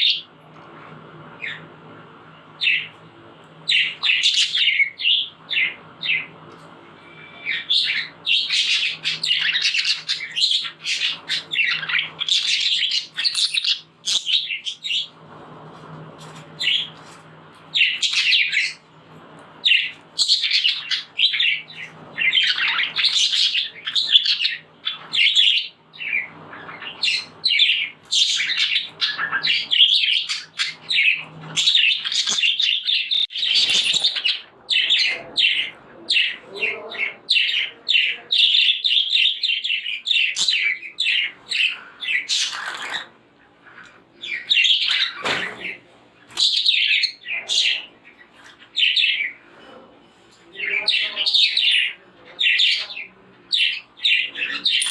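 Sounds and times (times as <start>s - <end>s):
budgerigars chirping: 2.6s - 2.9s, 3.6s - 6.4s, 7.0s - 15.2s, 16.6s - 17.1s, 17.7s - 18.8s, 19.6s - 49.4s, 50.5s - 54.9s.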